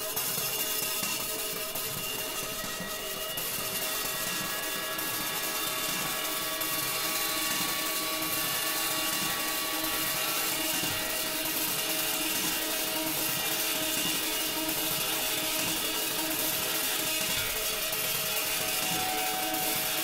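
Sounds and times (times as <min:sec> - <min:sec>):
bright hiss: 0:00.0 - 0:20.0
cymbal grinding friction: 0:00.0 - 0:20.0
ringing cymbal tones: 0:00.0 - 0:20.0.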